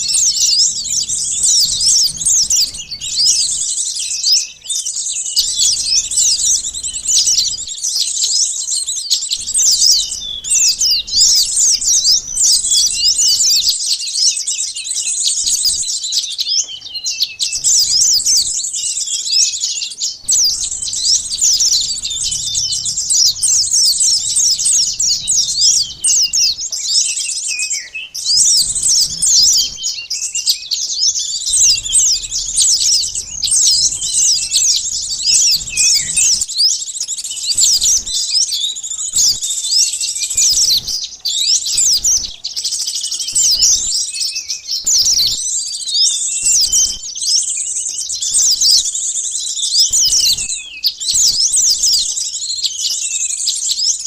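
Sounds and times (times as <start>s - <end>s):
birds chirping in chorus: 0.0s - 54.0s.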